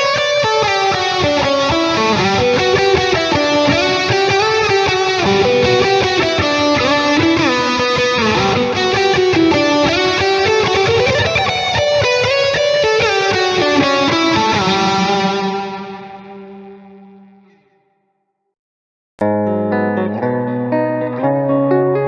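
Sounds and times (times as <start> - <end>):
distorted electric guitar lead: 0.0 - 17.8, 19.2 - 22.0.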